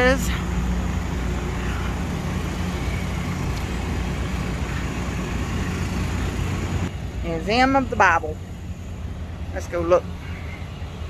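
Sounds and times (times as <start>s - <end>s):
low engine hum: 0.0s - 11.0s
street traffic noise: 0.0s - 11.0s.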